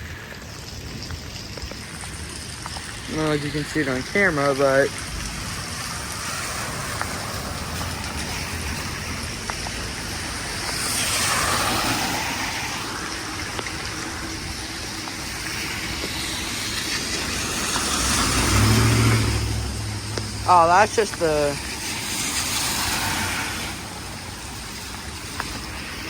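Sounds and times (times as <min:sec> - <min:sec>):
heavy rain hiss: 0:00.0 - 0:26.0
vehicle passing on wet road: 0:00.0 - 0:26.0.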